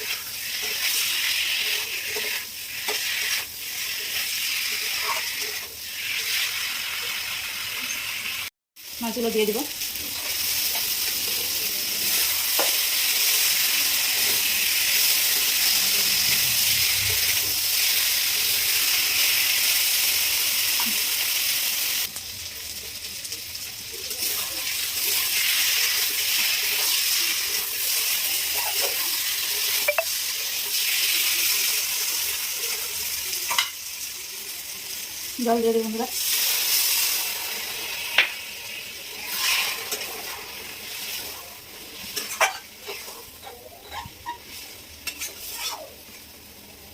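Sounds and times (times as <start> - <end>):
food sizzling in hot oil: 0.0 - 46.9.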